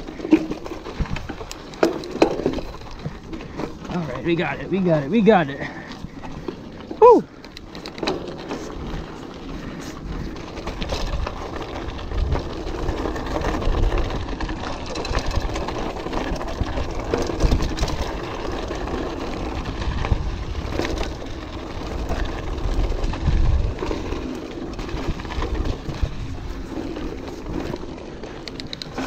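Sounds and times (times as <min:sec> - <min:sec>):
bike chain and frame rattling: 0:00.0 - 0:29.0.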